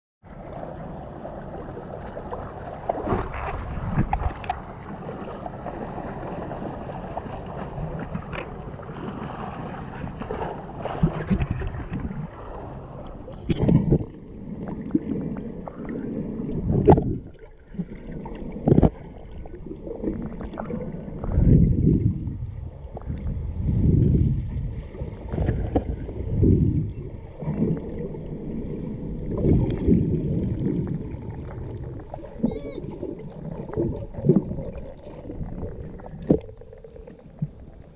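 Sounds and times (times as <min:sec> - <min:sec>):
muffled underwater rushing: 0:00.2 - 0:37.9
water sloshing and splashing: 0:00.3 - 0:37.9.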